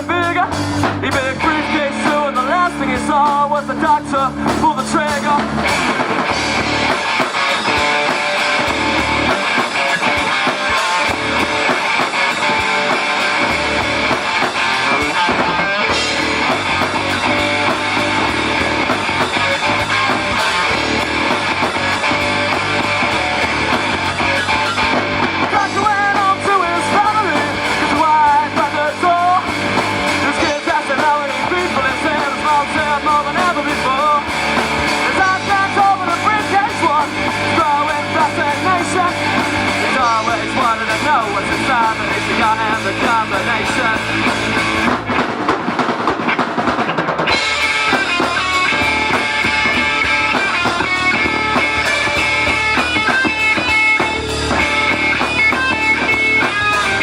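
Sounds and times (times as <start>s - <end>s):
rock band playing: 0.0s - 57.0s
wavering lead guitar melody: 0.0s - 57.0s.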